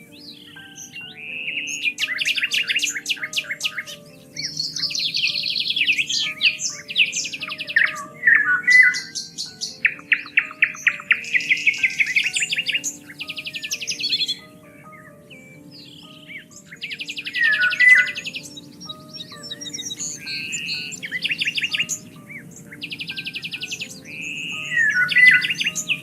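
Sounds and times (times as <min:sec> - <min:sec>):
soft background music low notes: 0:00.0 - 0:26.0
songbirds singing trills: 0:00.0 - 0:26.0.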